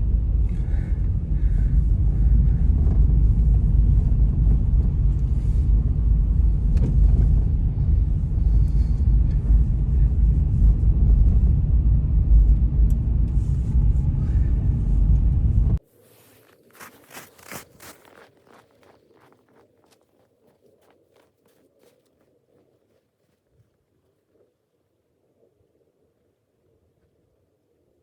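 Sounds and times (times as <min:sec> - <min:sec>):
blizzard wind buffeting microphone: 0:00.0 - 0:23.6.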